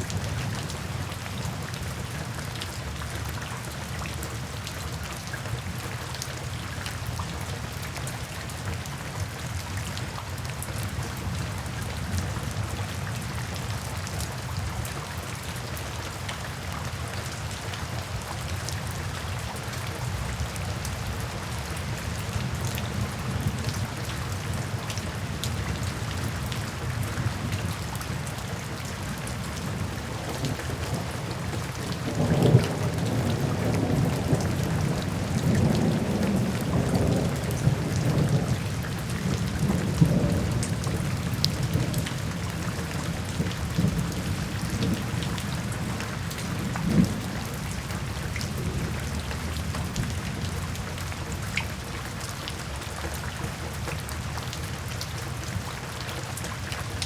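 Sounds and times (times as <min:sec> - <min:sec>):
raindrops ticking on a surface: 0:00.0 - 0:57.0
steady rain falling: 0:00.0 - 0:57.0.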